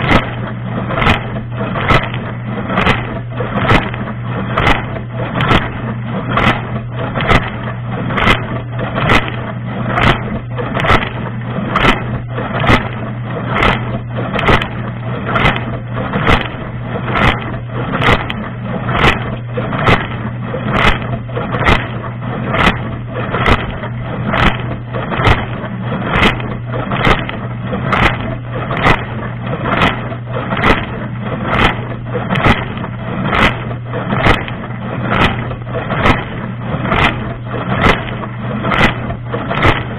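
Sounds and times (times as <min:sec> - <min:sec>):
dishwasher pump hum: 0:00.0 - 0:39.9.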